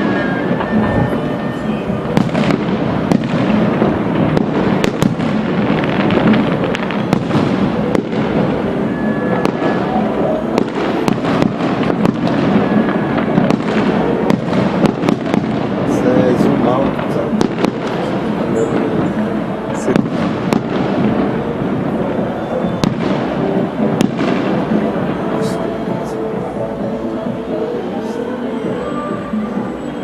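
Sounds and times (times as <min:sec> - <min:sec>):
fireworks bangs and crackles: 0:00.0 - 0:30.0
steady rumbling wash: 0:00.0 - 0:30.0.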